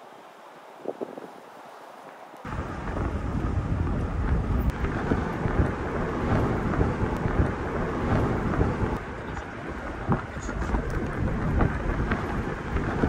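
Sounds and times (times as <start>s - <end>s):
low rumbling noise: 2.5s - 13.0s.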